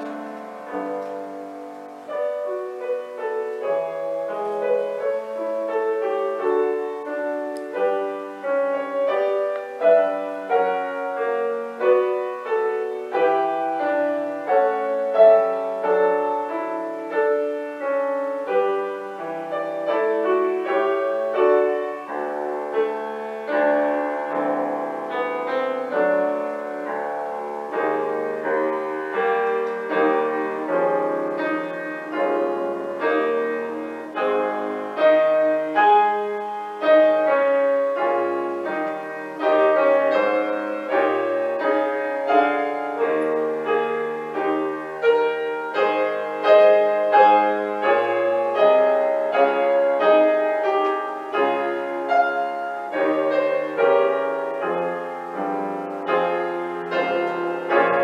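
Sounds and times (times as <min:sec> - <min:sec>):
solo piano playing chords: 0:00.0 - 0:58.0.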